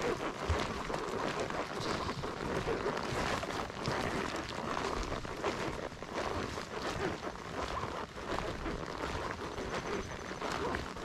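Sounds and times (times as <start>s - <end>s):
horse hooves walking: 0.0s - 11.0s
rustling: 0.0s - 11.0s
steady noisy hiss: 0.0s - 11.0s.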